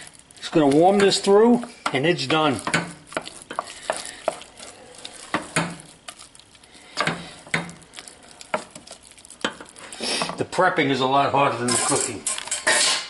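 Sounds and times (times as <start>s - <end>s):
wooden spoon scraping saucepan: 0.0s - 10.6s.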